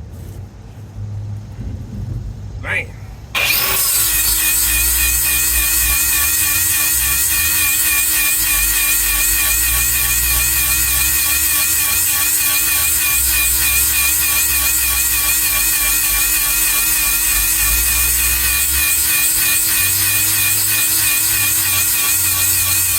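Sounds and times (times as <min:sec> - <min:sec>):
power tool high whine: 0:03.4 - 0:22.9.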